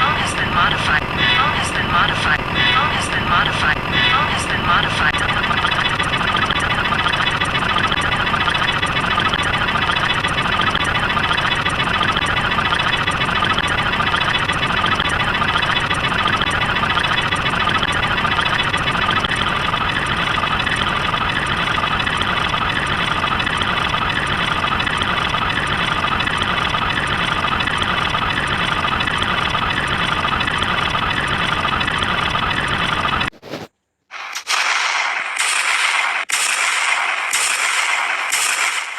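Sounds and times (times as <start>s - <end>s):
engine idling: 0.0s - 33.3s.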